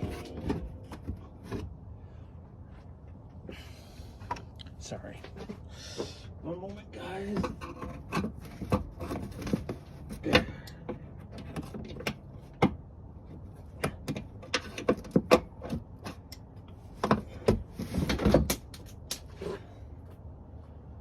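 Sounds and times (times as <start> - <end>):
clicks and knocks of car parts: 0.0 - 1.8, 5.2 - 20.2.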